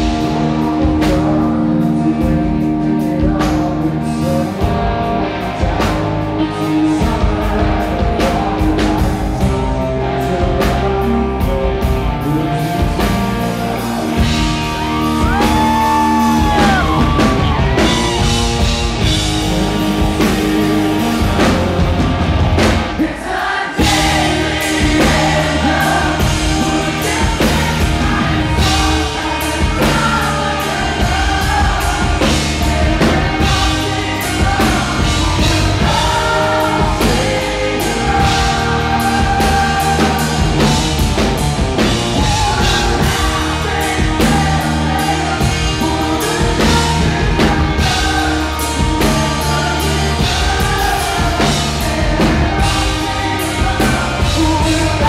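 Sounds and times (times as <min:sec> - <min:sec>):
man singing: 0:00.0 - 0:55.0
rock band playing: 0:00.0 - 0:55.0.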